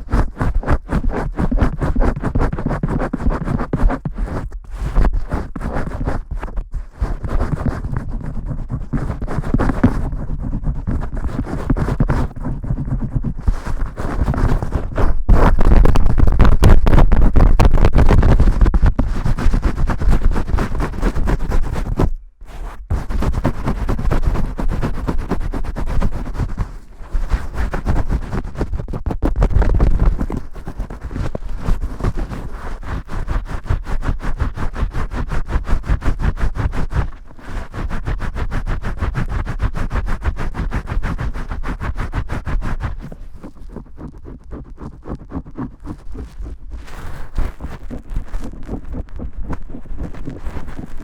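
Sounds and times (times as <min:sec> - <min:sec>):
scrubbing and rubbing strokes: 0:00.0 - 0:51.0.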